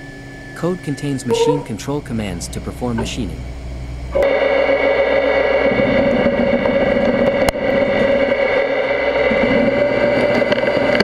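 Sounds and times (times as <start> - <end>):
machining whine: 0.0 - 11.0.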